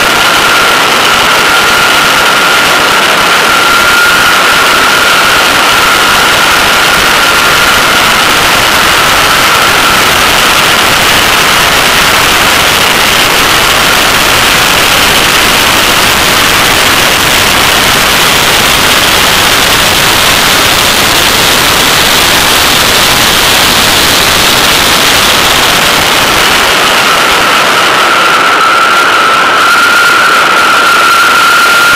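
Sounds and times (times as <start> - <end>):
wind and road noise: 0.0 - 31.9.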